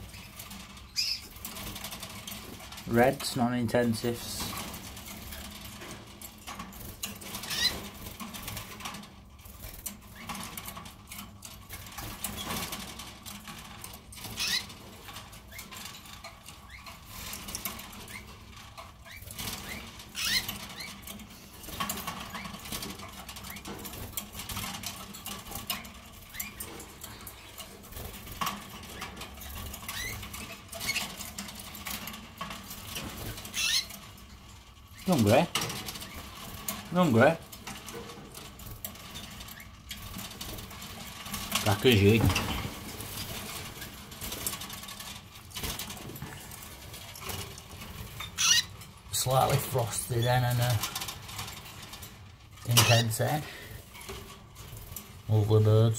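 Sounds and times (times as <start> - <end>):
birds pattering and rustling: 0.0 - 55.9
canaries chirping: 0.0 - 55.9.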